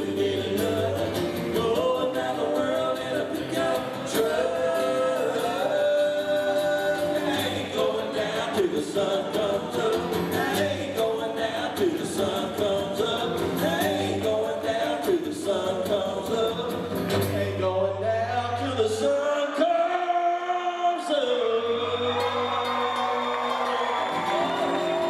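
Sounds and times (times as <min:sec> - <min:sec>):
acoustic guitars strumming: 0:00.0 - 0:19.1, 0:21.7 - 0:25.0
voices singing: 0:00.0 - 0:25.0.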